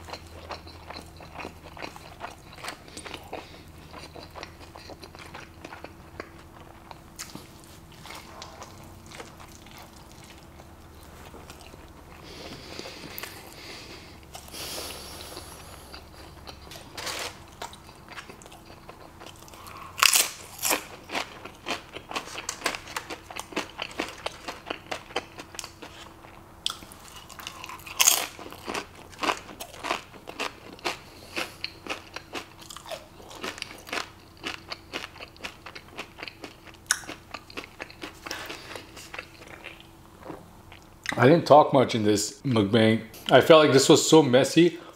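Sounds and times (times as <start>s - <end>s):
person chewing food: 0.0s - 41.2s.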